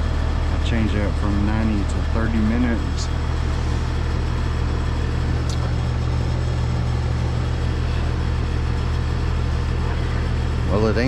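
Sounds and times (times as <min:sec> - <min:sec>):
heat pump low hum: 0:00.0 - 0:11.0.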